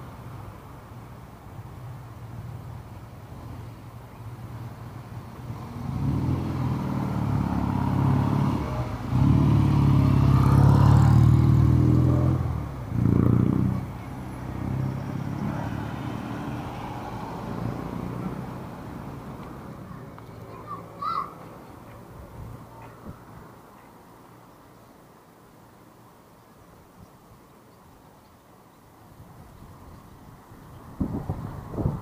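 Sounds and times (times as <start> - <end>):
road traffic passing close by: 0.0 - 32.0.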